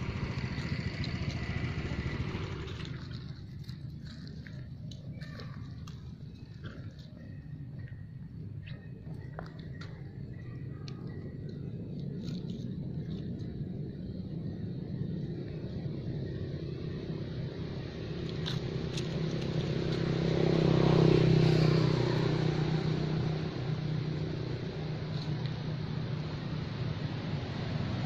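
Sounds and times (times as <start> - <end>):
passing vehicle engine hum: 0.0 - 28.0.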